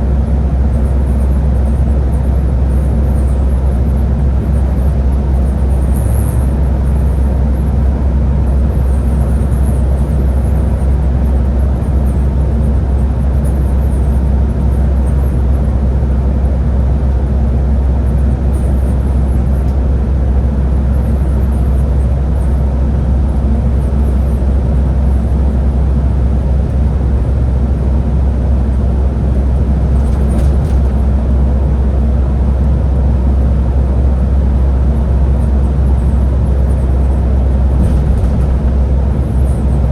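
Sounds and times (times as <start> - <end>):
bus engine and road drone: 0.0 - 39.9.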